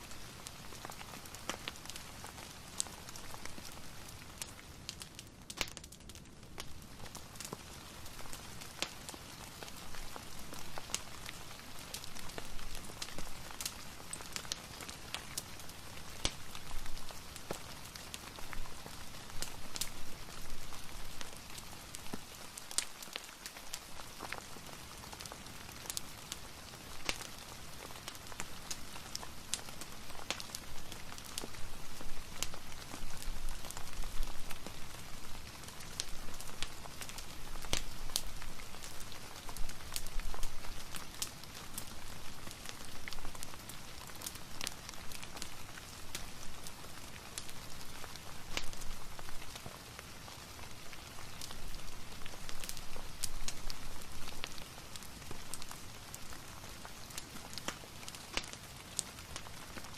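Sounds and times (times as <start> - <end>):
steady rain hiss: 0.0 - 59.9
wood fire crackling and popping: 0.0 - 59.9.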